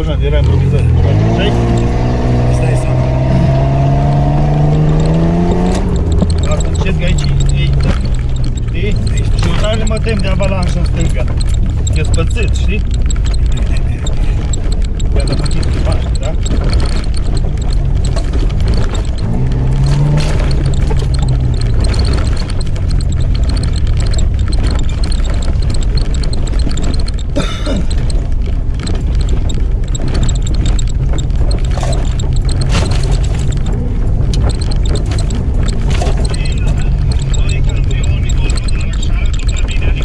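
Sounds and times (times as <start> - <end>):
knocks and rattles over ruts: 0.0 - 40.0
vehicle engine under load: 0.0 - 40.0.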